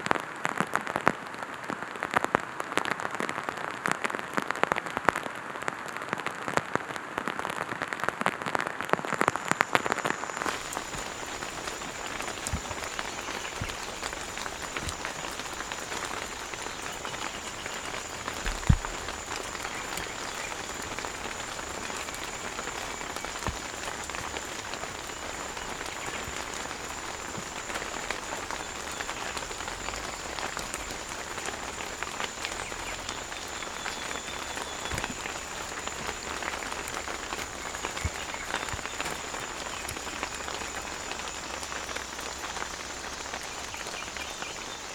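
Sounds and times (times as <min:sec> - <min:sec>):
rain pattering in forest: 0:00.0 - 0:44.9.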